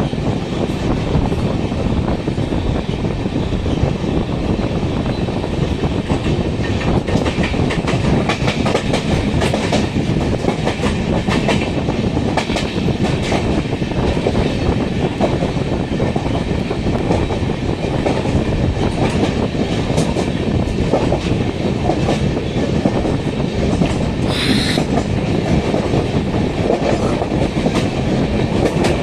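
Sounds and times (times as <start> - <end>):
train wheels and wind rumbling: 0.0 - 29.0.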